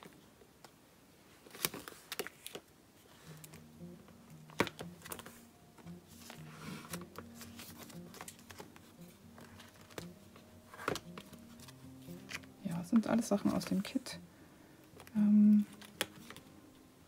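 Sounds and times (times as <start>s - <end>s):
plastic album sleeves crinkling: 0.0s - 3.7s, 4.3s - 14.2s, 14.9s - 16.6s
soft background music: 2.2s - 17.0s.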